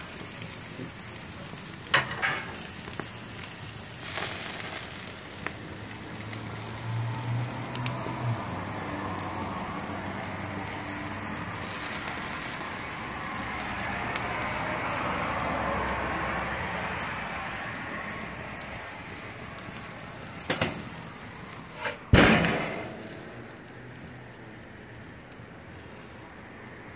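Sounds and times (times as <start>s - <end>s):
fire rushing: 0.0s - 26.9s
steaks sizzling on grill: 0.0s - 26.9s.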